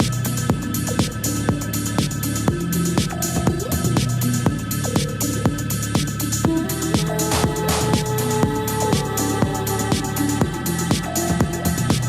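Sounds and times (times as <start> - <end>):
held synth notes: 0.0 - 12.0
kick drum: 0.0 - 12.0.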